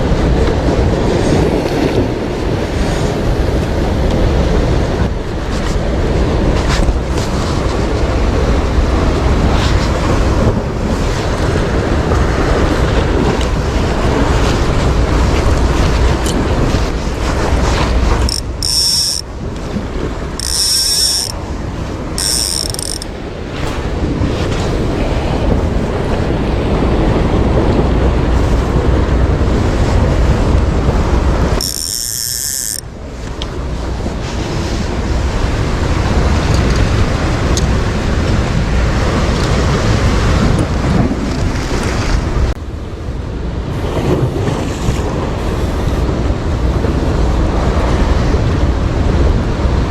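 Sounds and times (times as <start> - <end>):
sea waves: 0.0 - 49.9
wind buffeting microphone: 0.0 - 49.9.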